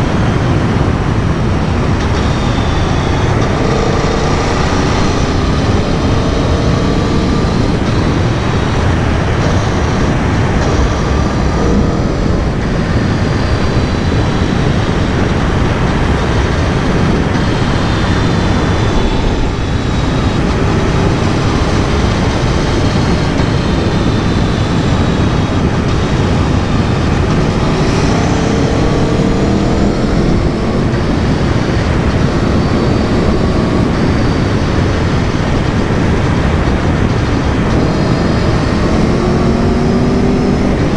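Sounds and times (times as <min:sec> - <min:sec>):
motorcycle engine revving: 0:00.0 - 0:40.9
wind and road rush: 0:00.0 - 0:40.9.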